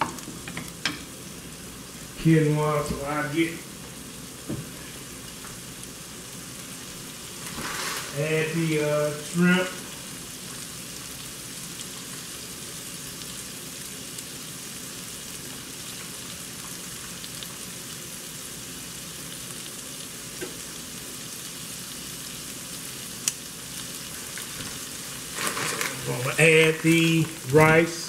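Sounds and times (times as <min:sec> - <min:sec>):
shrimp sizzling in a skillet: 0:00.0 - 0:28.0.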